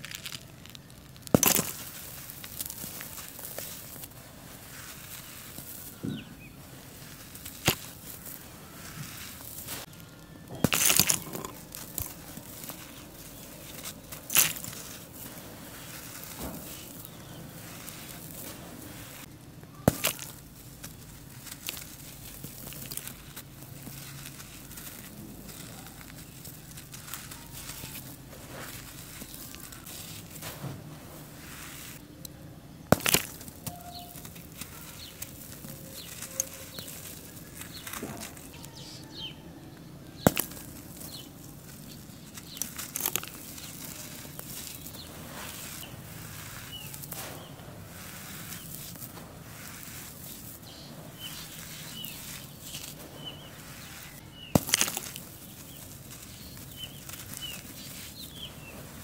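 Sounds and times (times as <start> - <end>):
charcoal lumps cracking: 0.0 - 59.0
dry charcoal powder rustling: 0.0 - 59.0.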